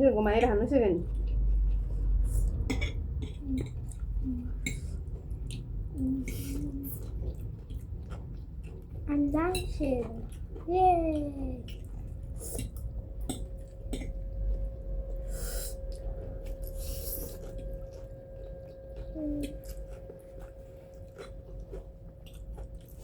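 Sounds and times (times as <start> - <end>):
faint steady hum: 0.0 - 23.0
chewing: 1.0 - 23.0.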